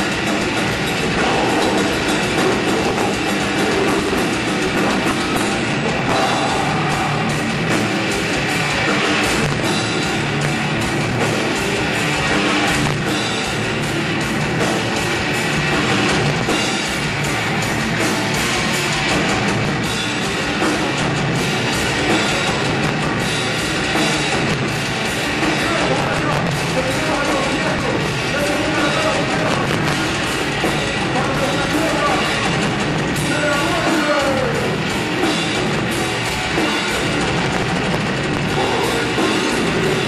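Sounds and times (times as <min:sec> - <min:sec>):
electric guitar: 0:00.0 - 0:40.0
fast drum kit: 0:00.0 - 0:40.0.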